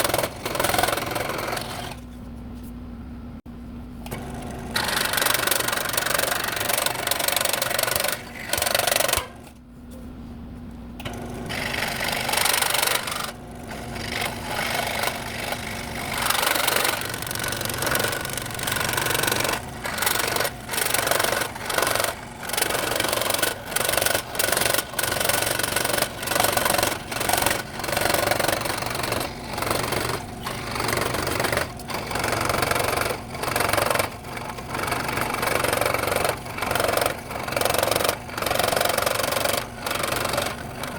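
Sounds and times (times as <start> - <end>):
scroll saw cutting wood: 0.0 - 2.1, 4.7 - 9.4, 11.1 - 40.9.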